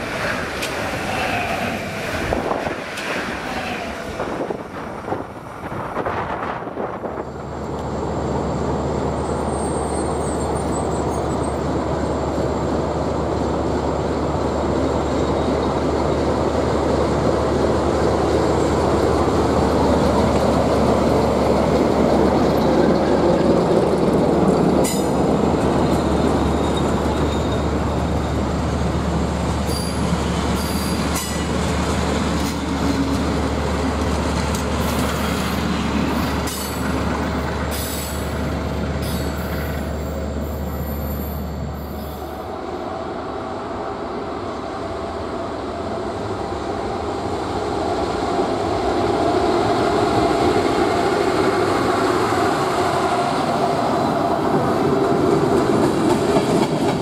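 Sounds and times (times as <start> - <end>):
train coaches clicking past: 0.0 - 42.7, 47.6 - 57.0
diesel locomotive engine: 0.0 - 57.0.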